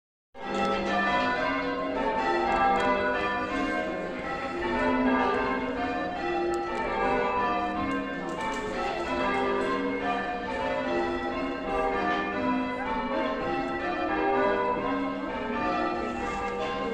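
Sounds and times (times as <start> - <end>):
church bells ringing: 0.4 - 16.9.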